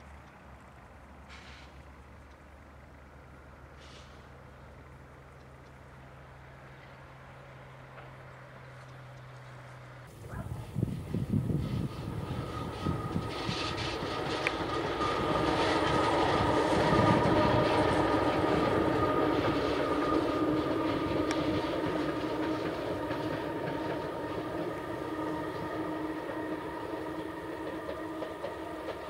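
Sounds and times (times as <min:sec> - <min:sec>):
electric locomotive passing: 0:00.0 - 0:29.0.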